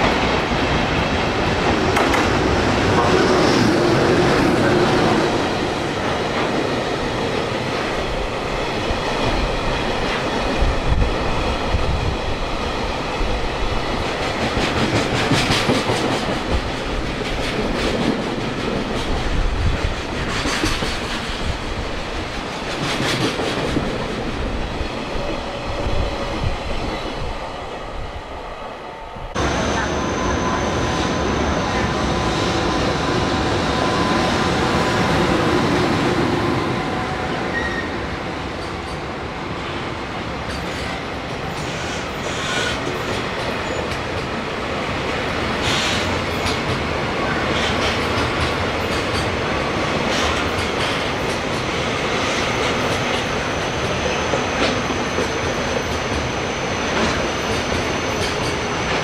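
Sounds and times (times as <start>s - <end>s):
electric locomotive passing: 0.0s - 59.0s.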